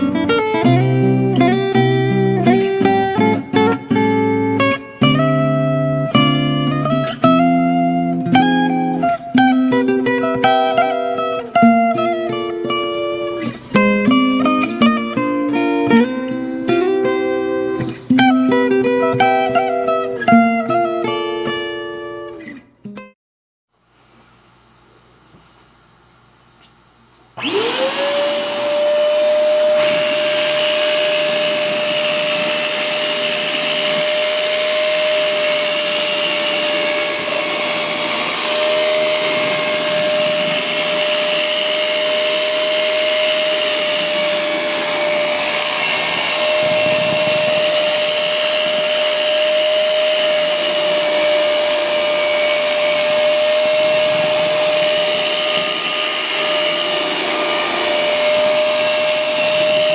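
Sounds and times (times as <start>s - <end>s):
vacuum cleaner motor whine: 0.0s - 22.3s, 27.4s - 59.9s.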